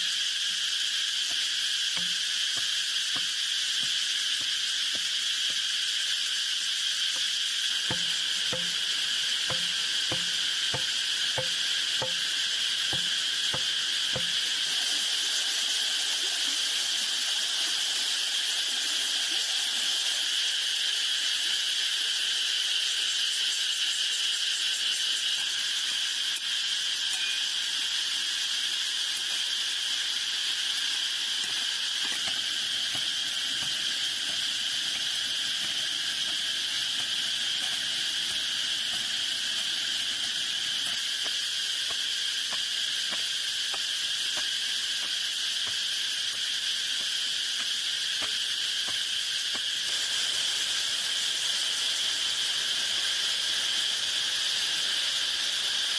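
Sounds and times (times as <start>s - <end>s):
insects chirring: 0.0s - 55.9s.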